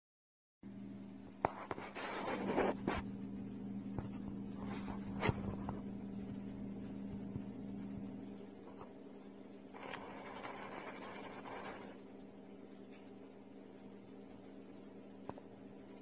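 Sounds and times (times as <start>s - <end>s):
steady low hum: 0.6s - 16.0s.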